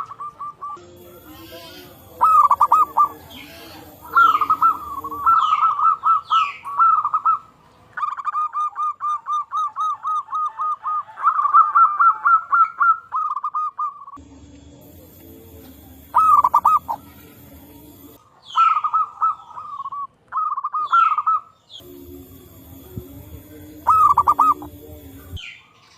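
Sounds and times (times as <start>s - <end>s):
doves cooing: 0.0s - 14.2s, 14.8s - 25.4s.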